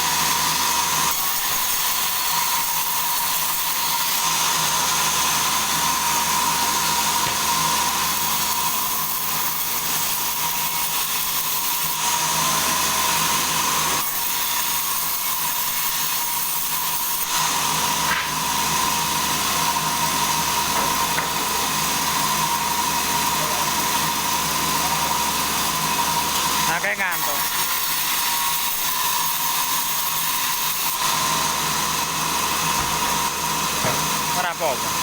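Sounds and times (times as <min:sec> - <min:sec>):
saw whine: 0:00.0 - 0:35.0.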